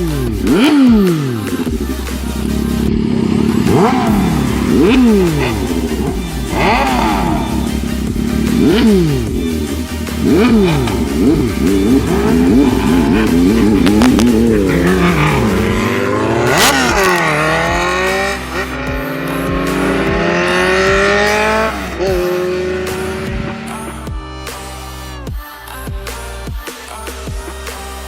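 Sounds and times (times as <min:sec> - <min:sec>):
motorcycle engine revving: 0:00.0 - 0:26.3
electronic music: 0:00.0 - 0:28.0.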